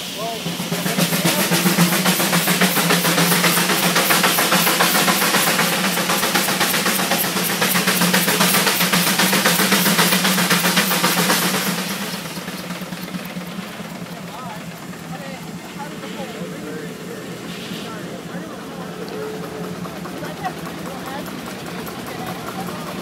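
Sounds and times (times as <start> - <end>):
steam tractor exhaust chuffing: 0.0 - 23.0.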